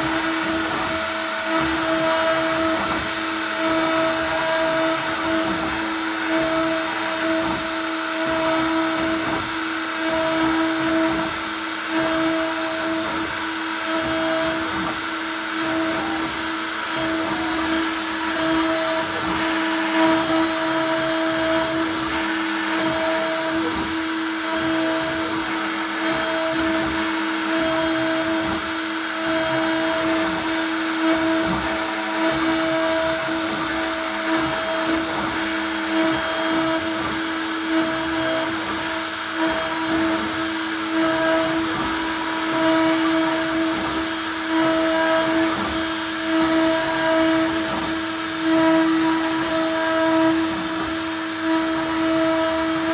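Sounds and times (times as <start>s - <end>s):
bit cutting wood: 0.0s - 52.9s
router motor whine: 0.0s - 52.9s.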